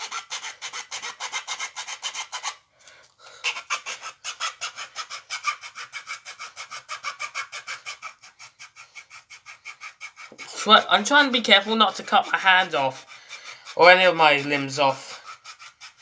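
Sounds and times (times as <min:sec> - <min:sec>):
hand saw cutting wood: 0:00.0 - 0:02.6, 0:03.3 - 0:16.0.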